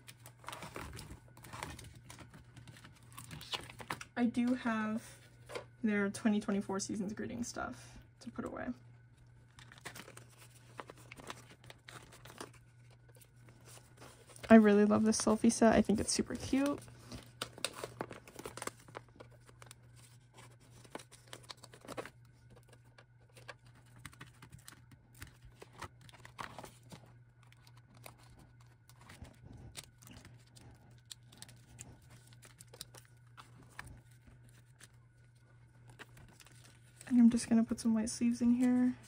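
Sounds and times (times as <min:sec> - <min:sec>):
plastic sleeves crinkling: 0:00.0 - 0:04.6, 0:09.1 - 0:39.0.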